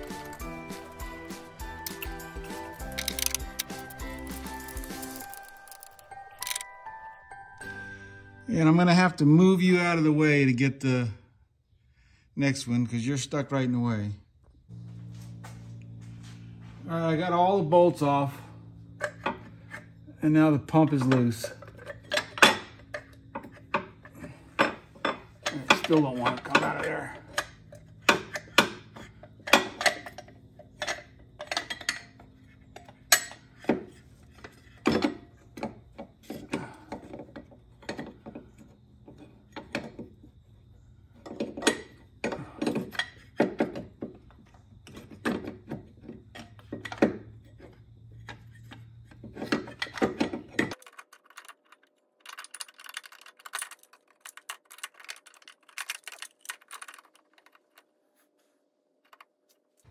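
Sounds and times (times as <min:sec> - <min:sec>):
background hum: 0:09.0 - 0:59.9.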